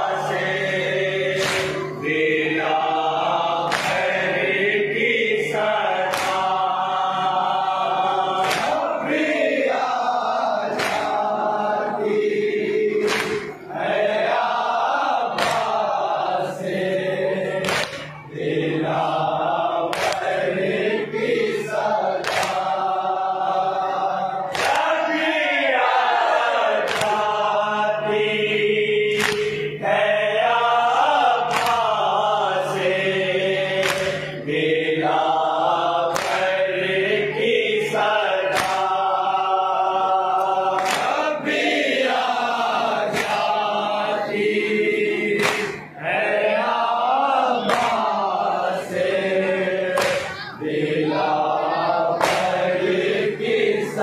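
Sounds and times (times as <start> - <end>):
men chanting through microphone: 0.0 - 54.0.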